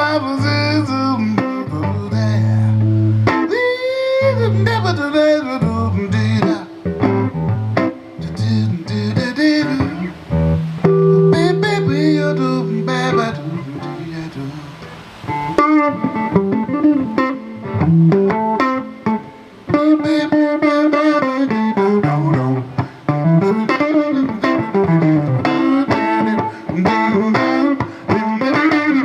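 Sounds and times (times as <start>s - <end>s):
blues band playing: 0.0s - 29.0s
lead guitar bending notes: 0.0s - 29.0s.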